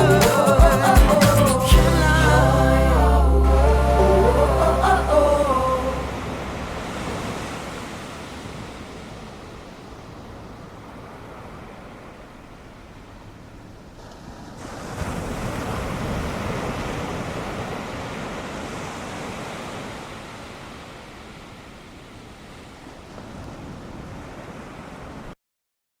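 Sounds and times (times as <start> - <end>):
ocean waves crashing ashore: 0.0 - 25.4.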